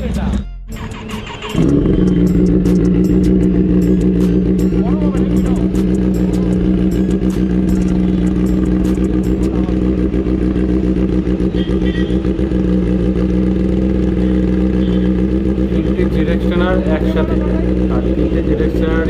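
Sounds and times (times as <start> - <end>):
motorcycle engine idling: 0.8 - 19.0.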